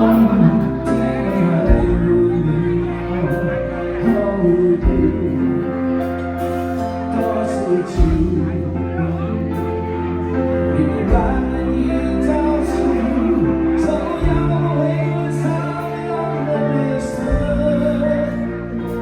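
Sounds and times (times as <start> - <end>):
live band playing: 0.0 - 19.0
person singing: 0.0 - 19.0
sustained bass notes: 0.0 - 19.0.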